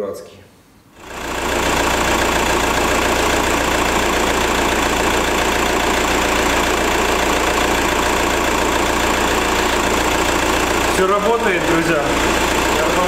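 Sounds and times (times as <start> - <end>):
car engine idling: 1.0 - 13.0.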